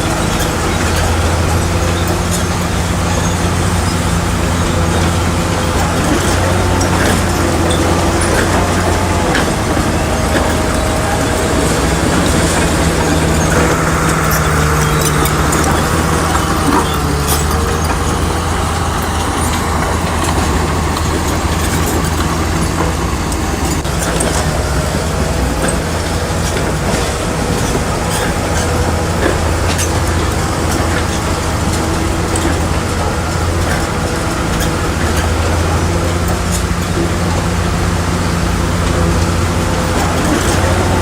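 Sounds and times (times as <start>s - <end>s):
bulldozer diesel engine running: 0.0s - 41.0s
steel tracks clanking: 0.0s - 41.0s.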